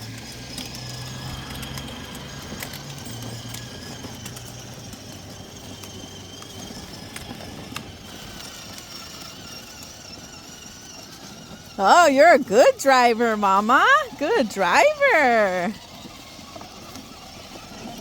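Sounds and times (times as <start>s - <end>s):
toy motor whine: 0.0s - 18.0s.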